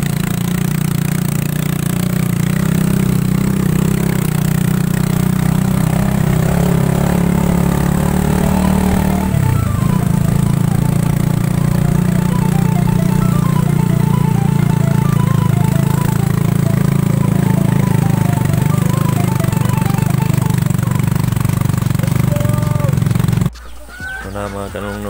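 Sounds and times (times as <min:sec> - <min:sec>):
motorcycle engine running: 0:00.0 - 0:23.5.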